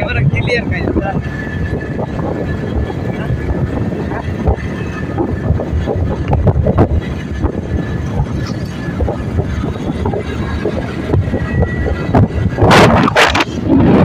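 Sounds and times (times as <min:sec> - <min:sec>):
motorcycle engine: 0:00.0 - 0:14.0
wind buffeting microphone: 0:00.0 - 0:14.0.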